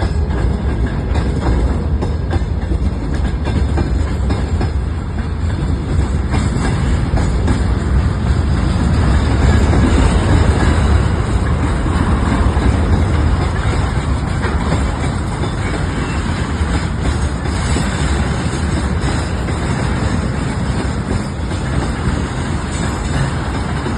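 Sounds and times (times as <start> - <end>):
train wheels rumbling on track: 0.0 - 23.9.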